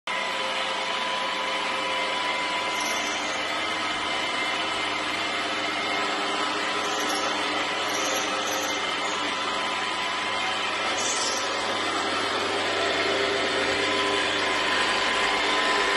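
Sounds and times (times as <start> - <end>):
floor grinder whining: 0.1 - 15.9.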